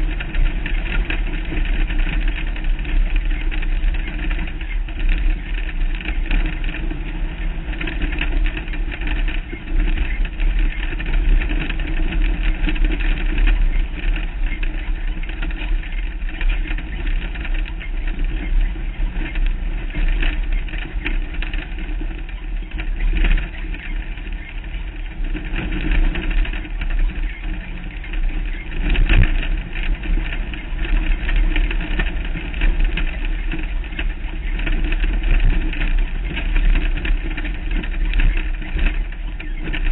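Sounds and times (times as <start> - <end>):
off-road vehicle engine: 0.0 - 39.9
wind buffeting microphone: 0.0 - 39.9.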